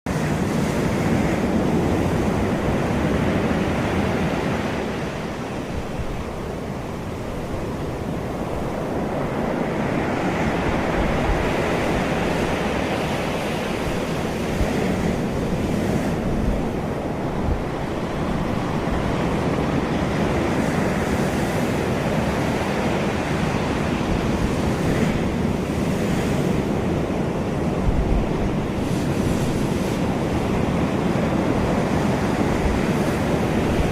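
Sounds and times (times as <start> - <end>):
sea waves washing onto shore: 0.1 - 33.9
wind blowing across microphone: 0.1 - 33.9.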